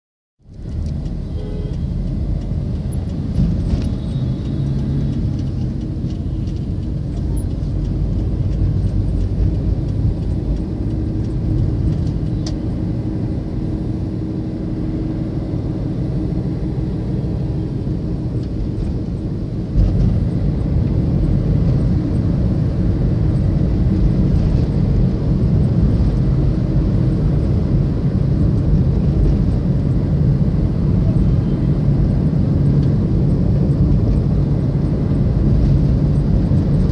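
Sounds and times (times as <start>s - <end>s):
car engine and tyre noise: 0.4s - 36.9s.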